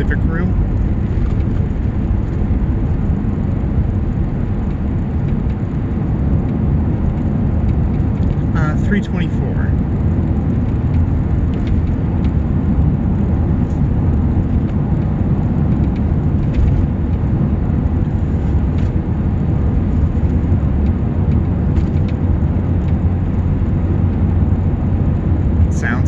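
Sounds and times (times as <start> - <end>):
car engine rumble inside cabin: 0.0 - 26.0.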